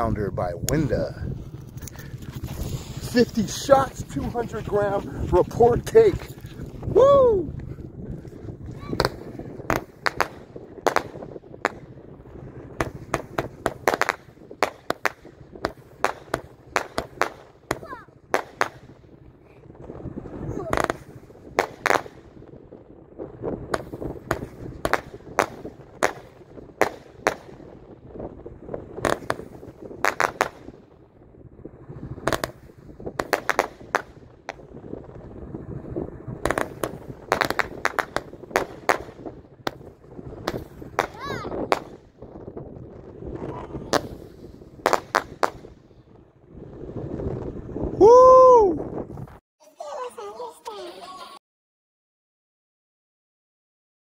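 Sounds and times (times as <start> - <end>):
firework report bangs: 0.6 - 6.6, 8.5 - 46.0
firework tails rising: 0.6 - 49.4.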